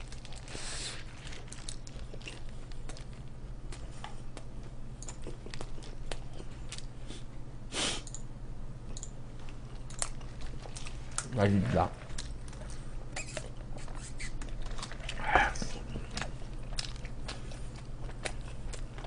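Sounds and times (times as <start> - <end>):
chewing and biting: 0.0 - 7.0, 9.4 - 19.0.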